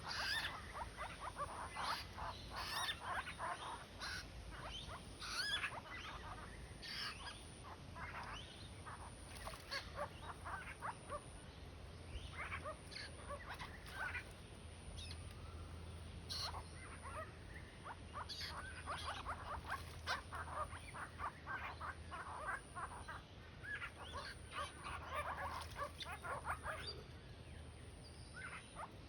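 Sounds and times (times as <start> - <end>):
birds chattering: 0.0 - 14.4, 15.0 - 29.0.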